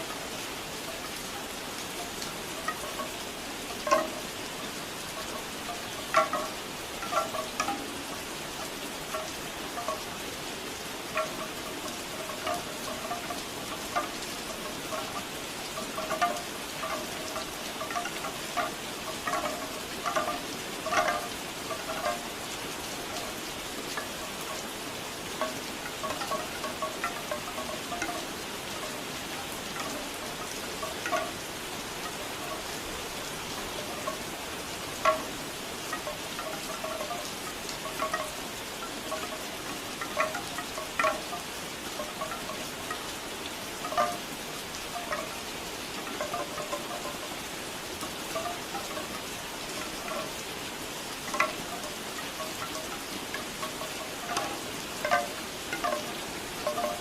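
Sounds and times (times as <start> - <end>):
bamboo wind chimes clonking: 0.0 - 57.0
steady rain: 0.0 - 57.0.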